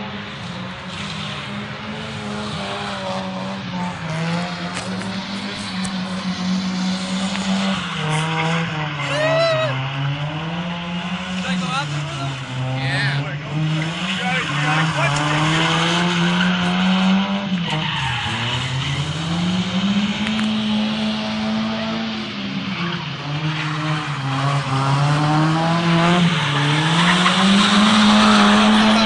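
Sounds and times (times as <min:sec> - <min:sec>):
car engine at high revs: 0:00.0 - 0:29.0
tires squealing on asphalt: 0:00.0 - 0:29.0.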